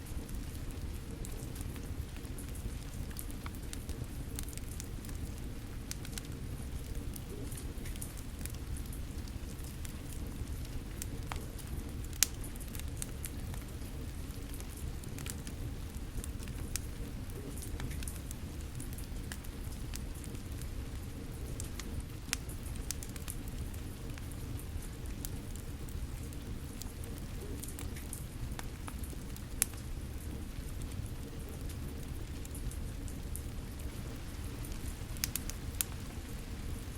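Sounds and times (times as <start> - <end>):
wood fire crackling: 0.0 - 36.9
sharp pops from fire: 0.1 - 36.9.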